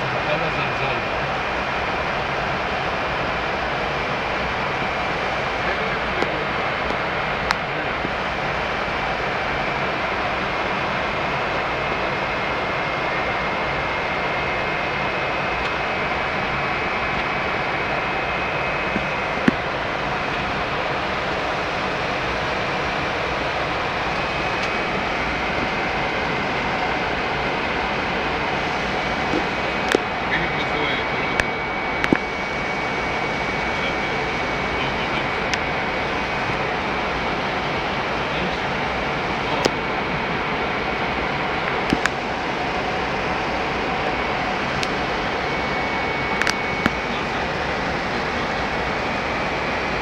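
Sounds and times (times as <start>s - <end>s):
faint high whine: 0.0s - 50.0s.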